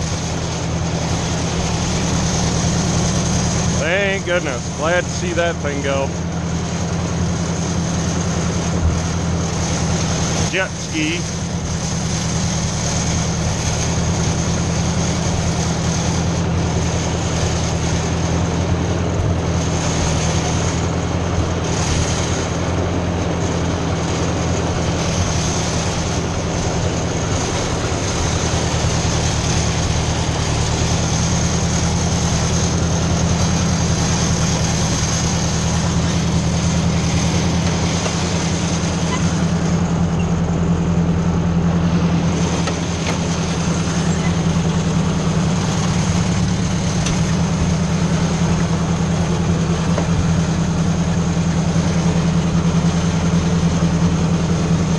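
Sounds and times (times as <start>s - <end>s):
tractor engine droning: 0.0s - 54.9s.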